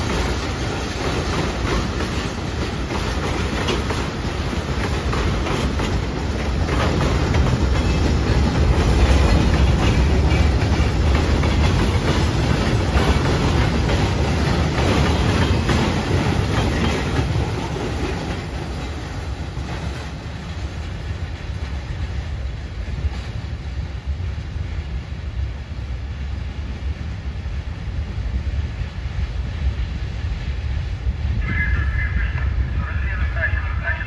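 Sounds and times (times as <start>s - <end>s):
freight train rolling on rails: 0.0s - 34.0s.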